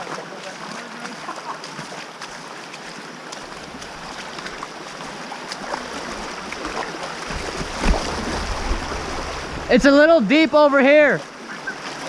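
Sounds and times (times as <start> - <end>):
rushing stream water: 0.0 - 12.0.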